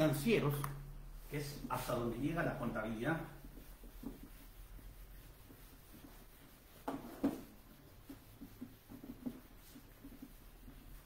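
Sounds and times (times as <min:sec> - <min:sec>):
eraser rubbing on whiteboard: 0:01.2 - 0:11.0.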